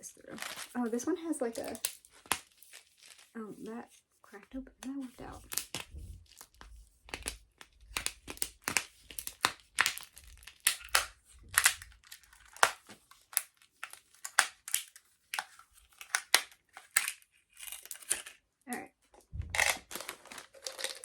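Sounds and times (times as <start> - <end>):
plastic packaging crinkling and cracking: 0.0 - 3.4, 5.0 - 18.4, 19.4 - 21.0.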